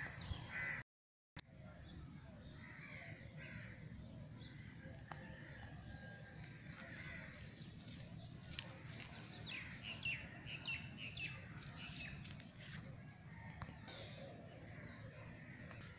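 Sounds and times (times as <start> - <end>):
small birds chirping: 1.4 - 15.9.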